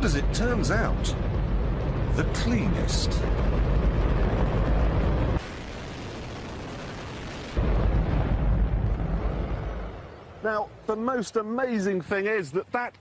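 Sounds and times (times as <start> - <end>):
rocket engine roaring: 0.0 - 10.4.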